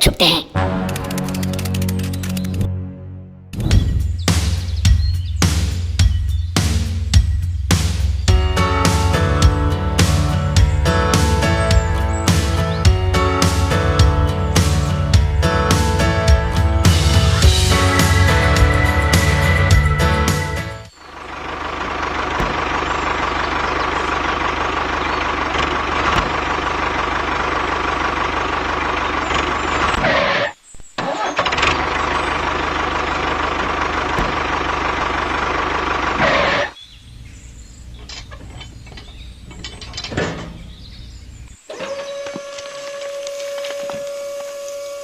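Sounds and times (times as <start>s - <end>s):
vehicle engine running: 4.6s - 30.4s, 31.4s - 41.6s.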